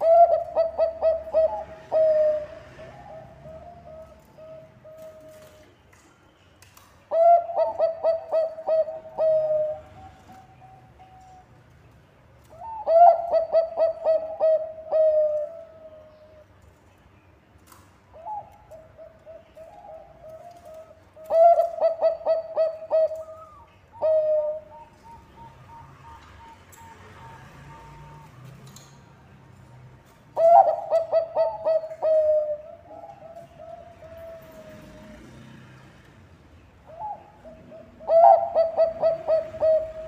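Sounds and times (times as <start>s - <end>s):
dove cooing: 0.0s - 5.7s, 7.1s - 11.5s, 12.5s - 16.4s, 18.1s - 28.4s, 30.4s - 35.5s, 36.8s - 40.0s.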